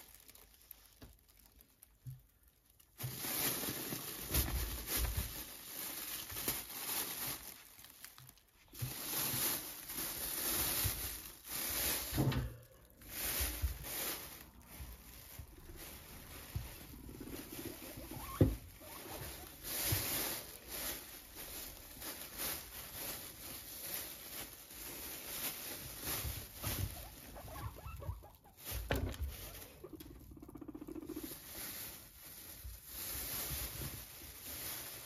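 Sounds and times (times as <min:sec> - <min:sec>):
plastic bag crinkling: 0:00.0 - 0:35.0.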